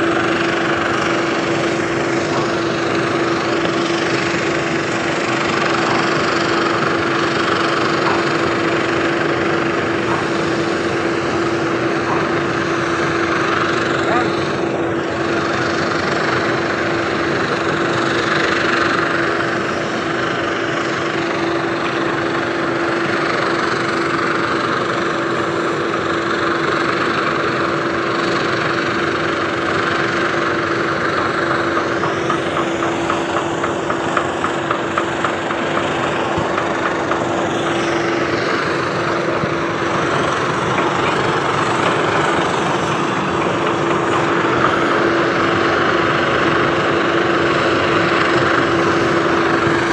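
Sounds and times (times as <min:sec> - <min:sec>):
engine running with hum: 0:00.0 - 0:49.9.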